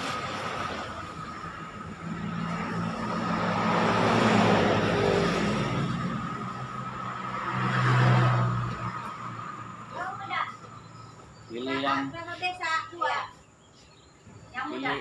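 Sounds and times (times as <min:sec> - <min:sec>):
vehicle engines passing: 0:00.0 - 0:15.0.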